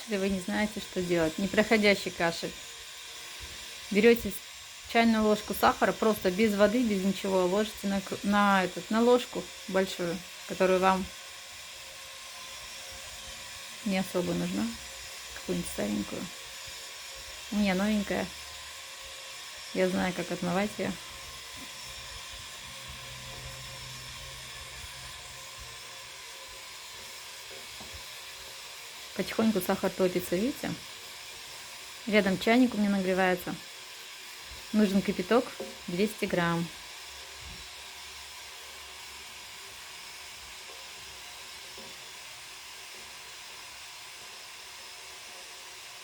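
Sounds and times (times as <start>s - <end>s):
kettle hissing: 0.0s - 46.0s.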